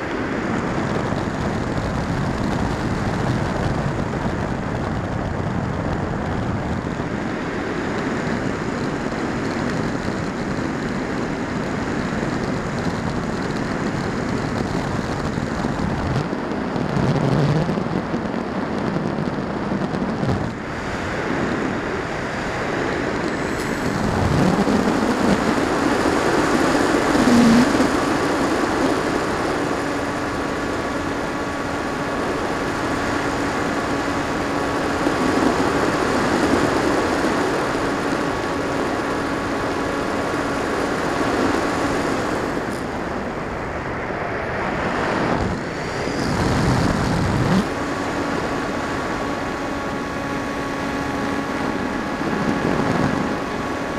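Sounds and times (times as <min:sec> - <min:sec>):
rushing wind buffeting: 0:00.0 - 0:53.9
steady whine: 0:00.0 - 0:53.9.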